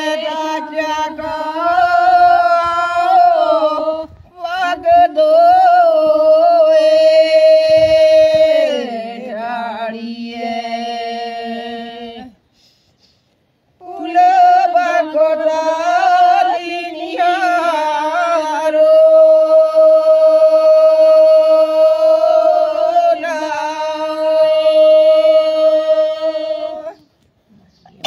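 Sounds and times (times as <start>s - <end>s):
woman singing unaccompanied: 0.0s - 12.4s, 13.8s - 27.0s.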